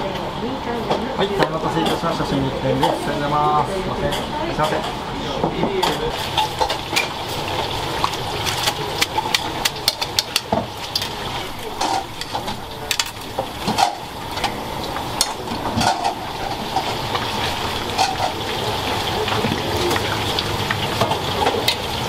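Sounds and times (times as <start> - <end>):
steady kitchen hiss and hum: 0.0 - 22.0
dishes and utensils clinking: 0.8 - 14.6, 15.2 - 20.2.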